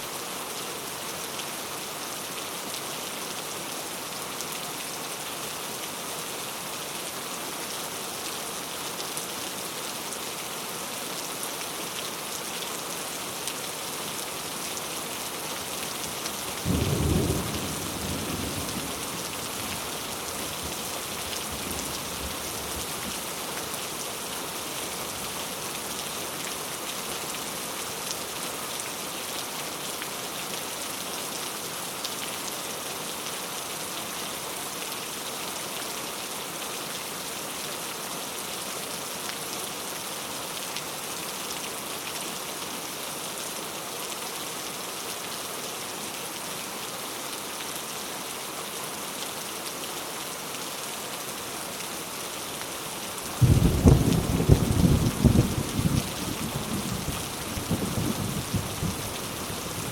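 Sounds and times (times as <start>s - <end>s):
heavy rain falling: 0.2s - 59.9s.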